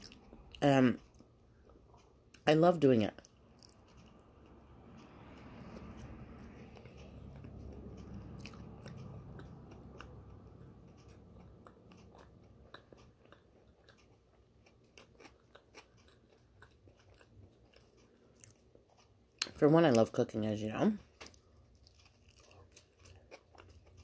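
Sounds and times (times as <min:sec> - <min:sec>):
person chewing with mouth clicks: 0:00.0 - 0:02.4, 0:03.3 - 0:05.4, 0:06.0 - 0:19.5, 0:21.2 - 0:24.0.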